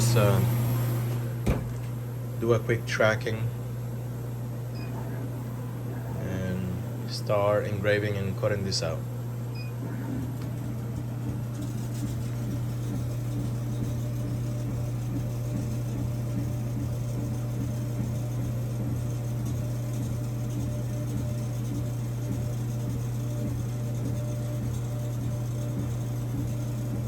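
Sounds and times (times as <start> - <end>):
laser engraver hum: 0.0 - 27.0.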